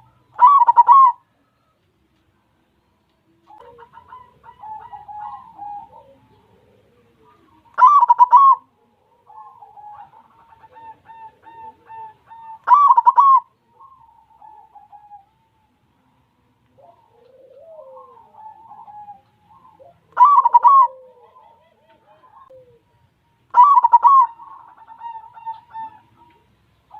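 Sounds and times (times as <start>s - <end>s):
dove cooing: 0.0s - 1.8s, 3.3s - 26.9s.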